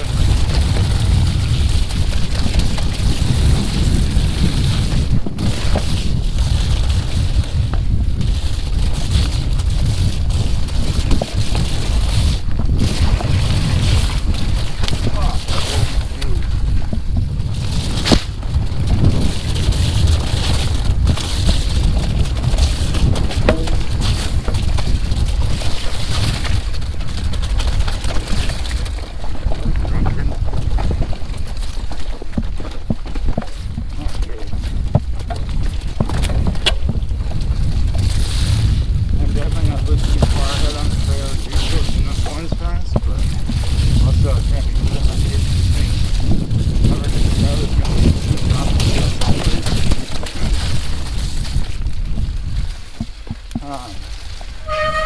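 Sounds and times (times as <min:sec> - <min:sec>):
bike knocks over rough ground: 0:00.0 - 0:55.0
wind buffeting microphone: 0:00.0 - 0:55.0.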